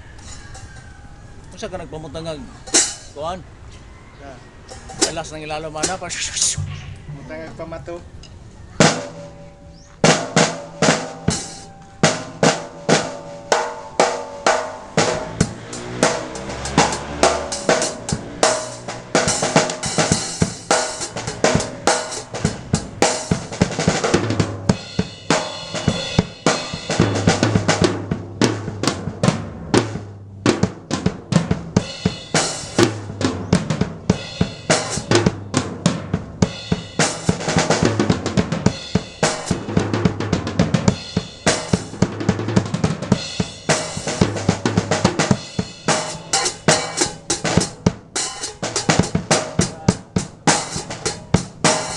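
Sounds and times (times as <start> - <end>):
drum kit steady beat: 2.7 - 3.2, 4.7 - 7.1, 8.8 - 51.9.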